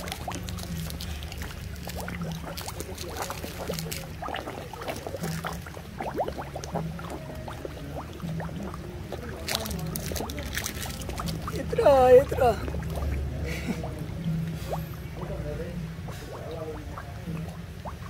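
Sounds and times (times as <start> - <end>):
fish splashing and gulping: 0.0 - 18.0
low steady hum: 0.0 - 18.0.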